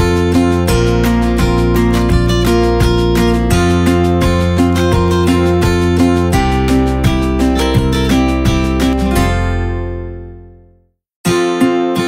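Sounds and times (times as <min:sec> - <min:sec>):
strummed acoustic guitar: 0:00.0 - 0:10.5, 0:11.2 - 0:12.0.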